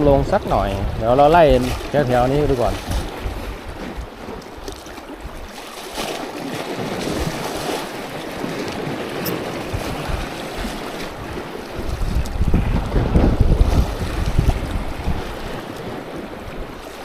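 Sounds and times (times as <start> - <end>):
sea waves washing on rocks: 0.0 - 17.0
wind buffeting microphone: 0.0 - 17.0.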